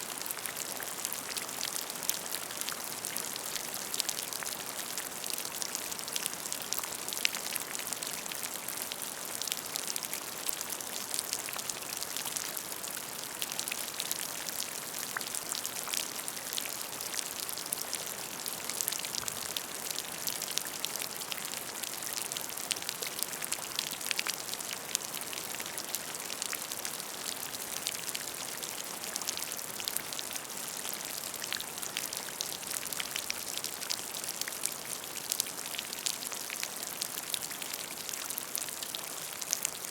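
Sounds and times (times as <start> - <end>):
rain falling onto puddle: 0.0 - 39.9.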